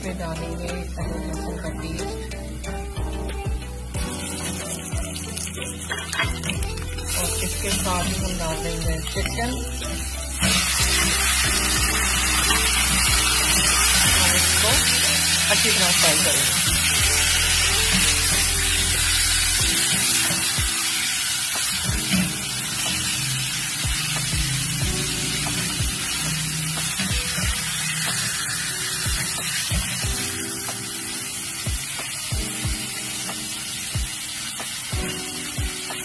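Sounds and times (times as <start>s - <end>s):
chicken sizzling in oil: 3.9s - 36.0s.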